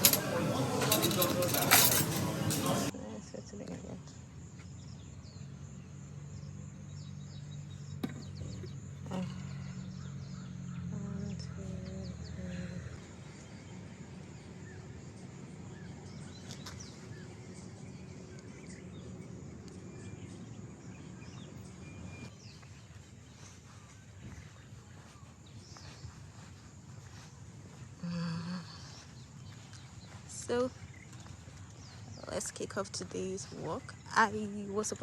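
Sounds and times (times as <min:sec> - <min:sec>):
birds chirping: 0:00.0 - 0:35.0
outdoor background noise: 0:00.0 - 0:35.0.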